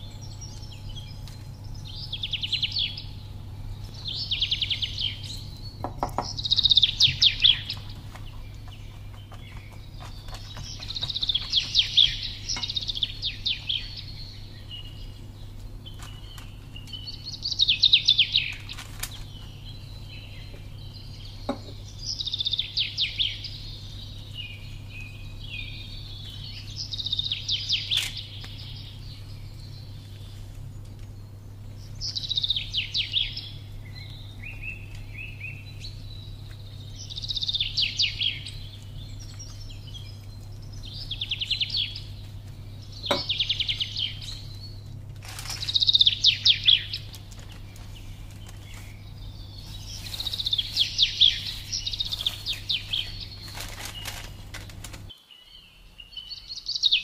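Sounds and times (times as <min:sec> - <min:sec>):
songbird trilling: 0:00.0 - 0:54.4
steady low hum: 0:00.0 - 0:57.0.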